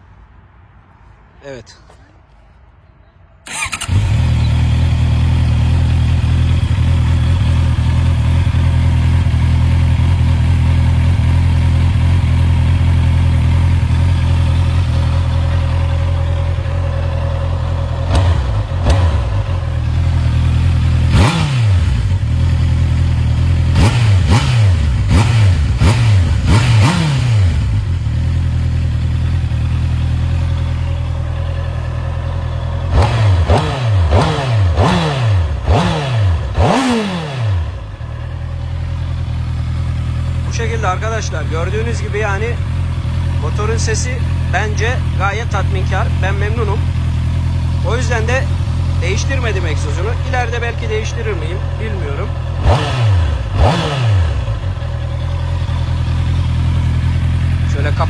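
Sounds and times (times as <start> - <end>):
motorcycle engine idling: 3.5 - 58.0
motorcycle engine revving: 3.5 - 58.0.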